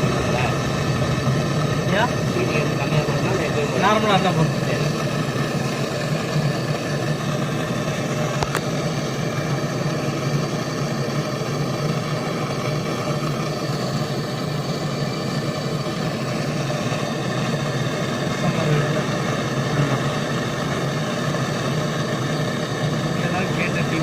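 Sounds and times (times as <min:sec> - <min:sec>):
machine running with hum and hiss: 0:00.0 - 0:24.0.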